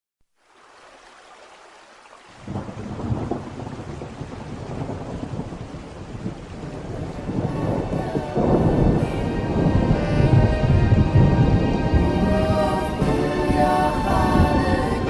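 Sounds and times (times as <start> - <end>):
faint rain hiss: 0.3 - 15.0
low rumble of thunder: 2.4 - 15.0.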